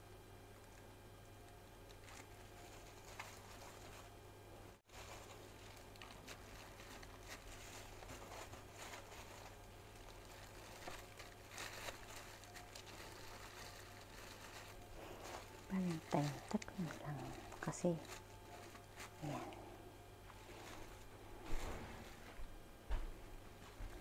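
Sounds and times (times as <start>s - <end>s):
low steady hum: 0.0s - 24.0s
rustling of plastic glove: 1.5s - 22.6s.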